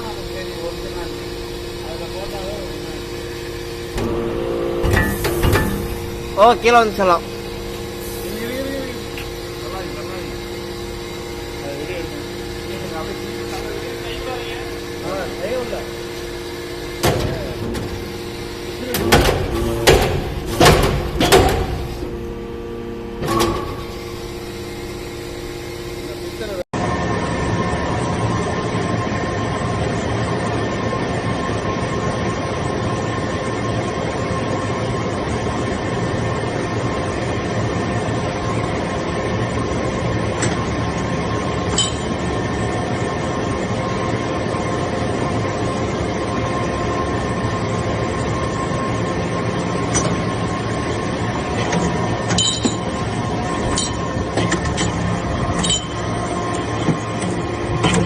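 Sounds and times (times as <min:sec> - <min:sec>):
baler mechanical hum: 0:00.0 - 0:58.0.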